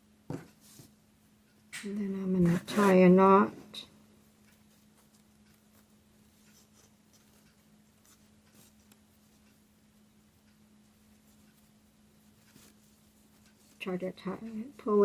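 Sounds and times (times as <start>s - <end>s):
faint steady hum: 0.0s - 15.0s
twine rustling: 2.2s - 15.0s.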